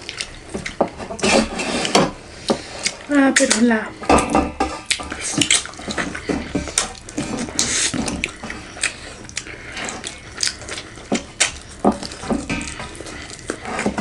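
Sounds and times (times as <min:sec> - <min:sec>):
wet chewing and mixing food: 0:00.0 - 0:14.0.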